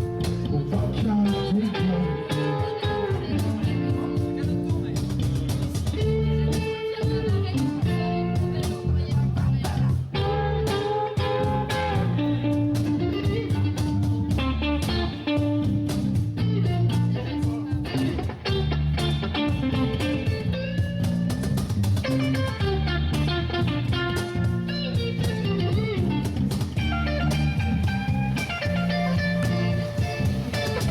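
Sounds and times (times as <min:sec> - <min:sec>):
blues-rock band playing: 0:00.0 - 0:30.9.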